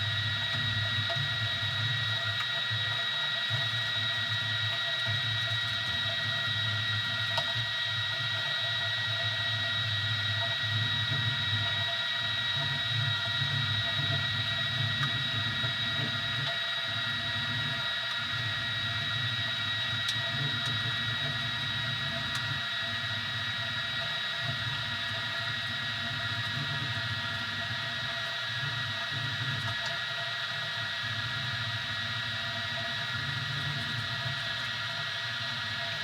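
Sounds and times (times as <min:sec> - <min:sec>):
printer high whine: 0:00.0 - 0:36.0.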